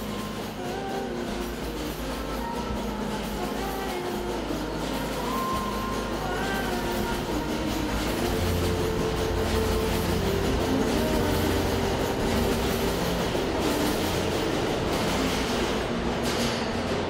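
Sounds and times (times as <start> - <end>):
subway train rumbling in tunnel: 0.0 - 17.0
wavering whine: 0.0 - 17.0.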